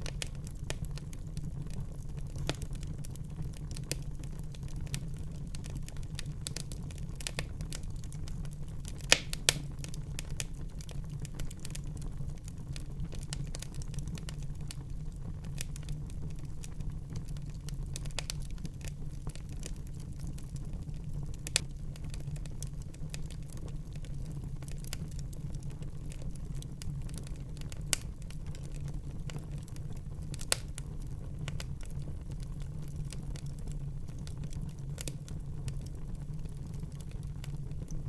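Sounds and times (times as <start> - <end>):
low rumble of flames: 0.0 - 38.0
wood fire crackling and popping: 0.0 - 38.0.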